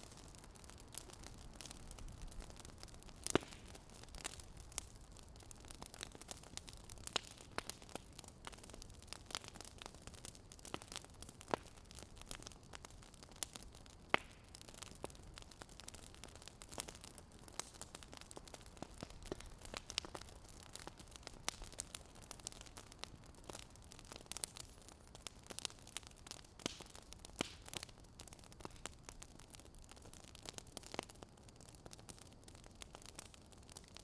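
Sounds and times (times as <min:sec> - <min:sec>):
low steady hiss: 0:00.0 - 0:34.0
wood fire crackling: 0:00.0 - 0:34.0.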